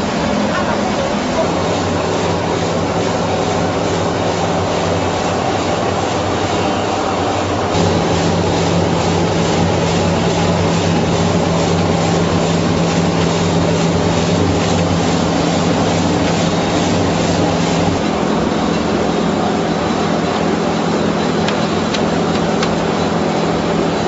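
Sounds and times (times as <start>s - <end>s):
motor hum: 0.0s - 24.0s
vegetable washing machine running: 0.0s - 24.0s.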